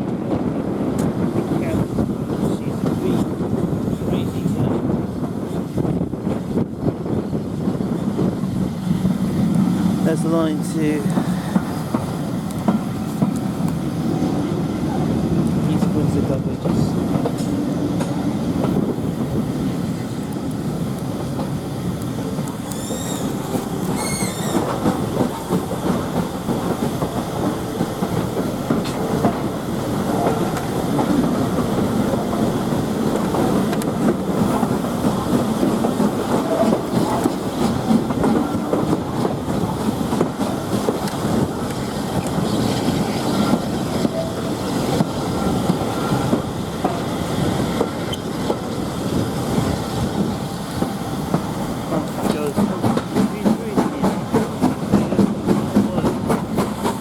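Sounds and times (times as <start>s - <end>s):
train wheels clicking over rail joints: 4.7s - 14.4s, 15.3s - 57.0s.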